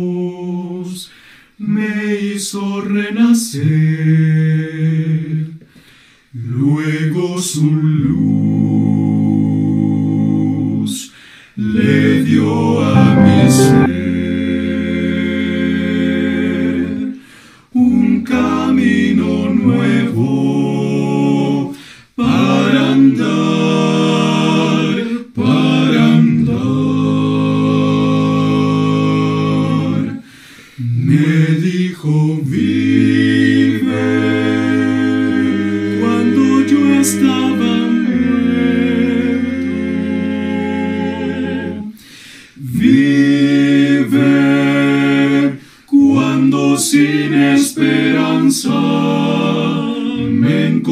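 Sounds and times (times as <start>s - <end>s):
male vocal quartet singing a hymn: 0.0s - 5.6s, 6.4s - 13.9s, 14.5s - 50.9s.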